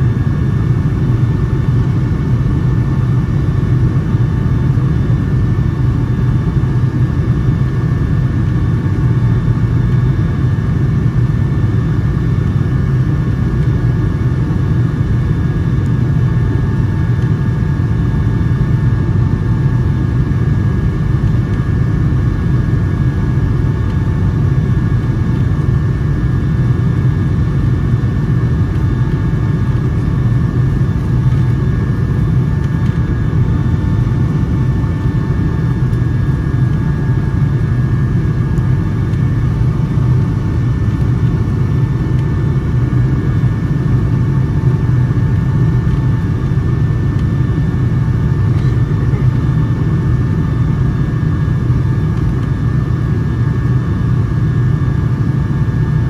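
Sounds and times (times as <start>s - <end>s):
faint steady whine: 0.0s - 56.0s
jet engine rumble in cabin: 0.0s - 56.0s.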